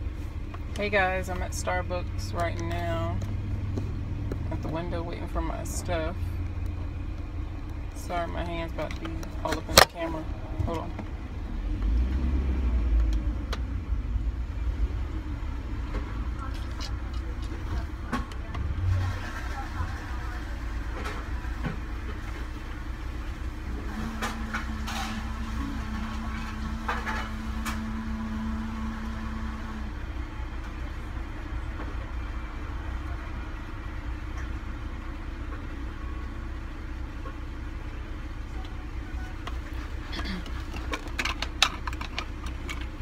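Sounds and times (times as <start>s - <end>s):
car engine idling: 0.0s - 43.0s
steady hum: 0.0s - 43.0s.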